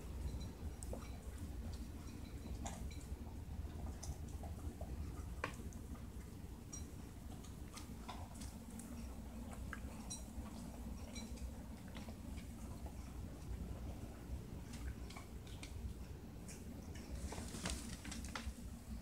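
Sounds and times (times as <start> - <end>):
low steady hum: 0.0 - 19.0
puppies crunching kibble: 0.0 - 19.0.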